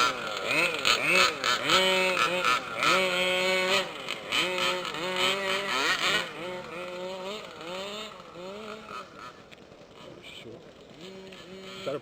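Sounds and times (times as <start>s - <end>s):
rc car engine revving: 0.0s - 12.0s.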